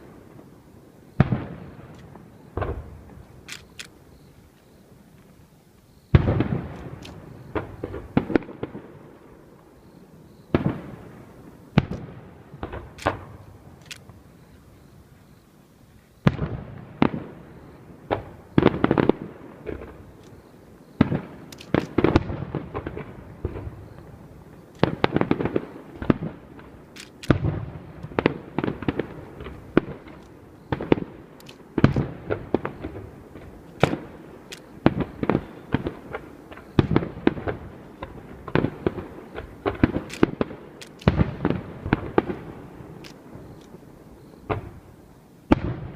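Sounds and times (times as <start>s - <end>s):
fireworks booming and cracking: 0.0s - 3.5s, 6.1s - 9.7s, 10.4s - 14.2s, 16.2s - 45.9s.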